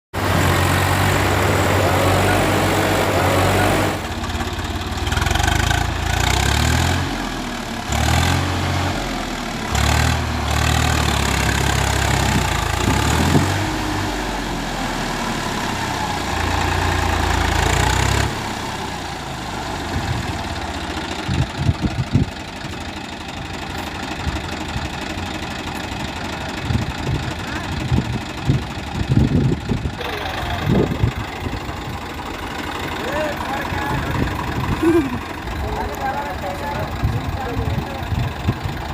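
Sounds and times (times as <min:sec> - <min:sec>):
tractor diesel engine running: 0:00.1 - 0:38.9.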